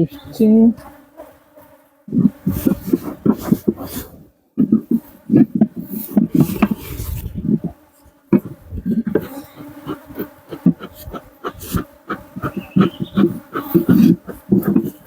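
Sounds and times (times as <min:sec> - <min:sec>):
hum of bee colony: 0:00.0 - 0:15.0
bees buzzing past: 0:00.1 - 0:15.0.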